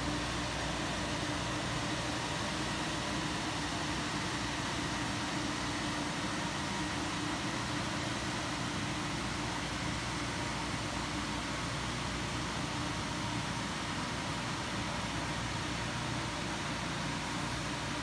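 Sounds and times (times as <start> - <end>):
car wash machine humming: 0.0 - 18.0.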